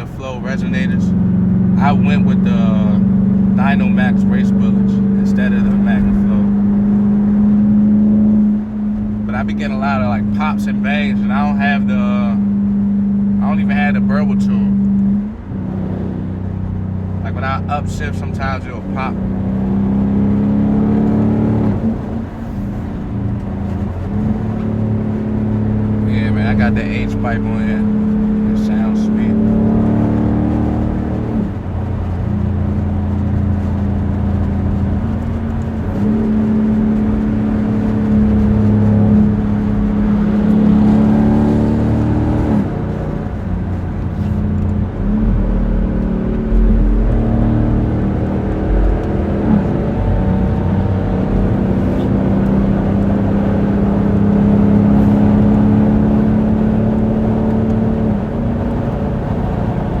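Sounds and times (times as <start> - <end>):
deep exhaust drone while driving: 0.0 - 60.0.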